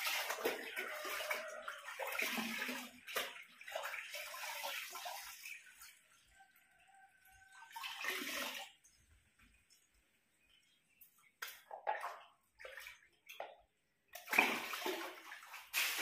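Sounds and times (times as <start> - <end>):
water splashing and dripping: 0.0 - 16.0.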